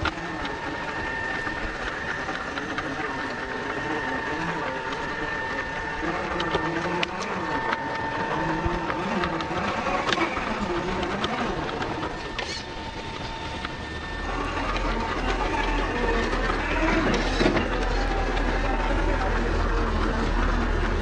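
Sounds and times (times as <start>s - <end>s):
electric motor and gearbox whining: 0.0s - 21.0s.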